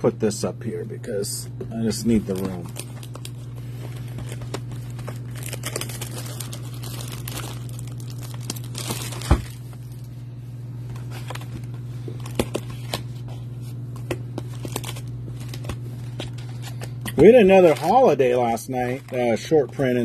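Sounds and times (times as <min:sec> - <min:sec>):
plastic wrap crinkling and tearing: 0:01.8 - 0:10.1, 0:10.9 - 0:13.3, 0:14.4 - 0:20.0.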